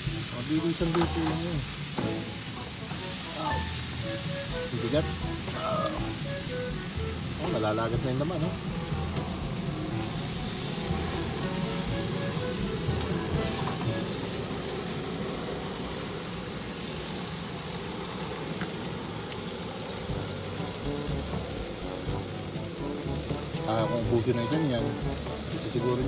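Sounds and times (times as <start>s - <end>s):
ribs sizzling on a grill: 0.0s - 26.0s.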